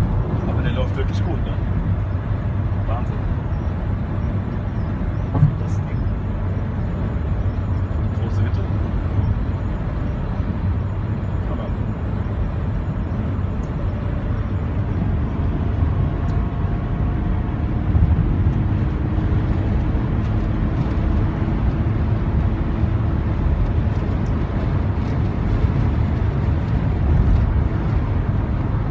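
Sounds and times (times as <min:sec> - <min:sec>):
diesel engine droning: 0:00.0 - 0:28.9
wind and road noise: 0:00.0 - 0:28.9.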